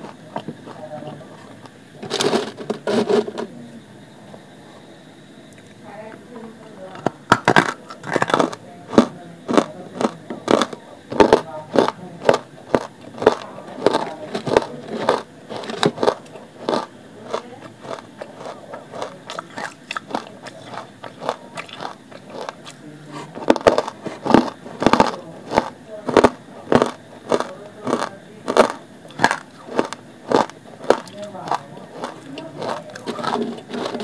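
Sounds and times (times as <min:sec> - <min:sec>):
chewing hard clay crunches: 0:00.0 - 0:02.3, 0:07.0 - 0:34.0.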